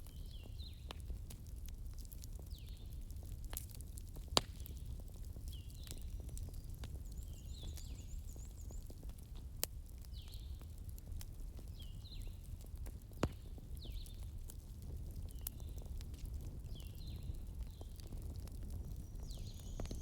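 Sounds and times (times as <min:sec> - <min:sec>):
bonfire rumbling and crackling: 0:00.0 - 0:20.0.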